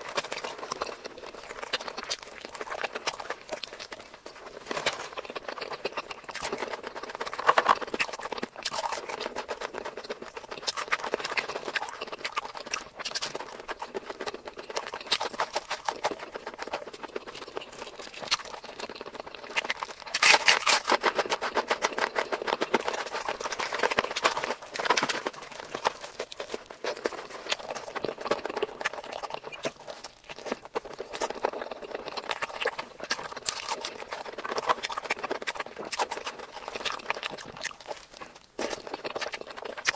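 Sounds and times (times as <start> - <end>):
rapid chewing and mouth clicks: 0.0 - 39.9.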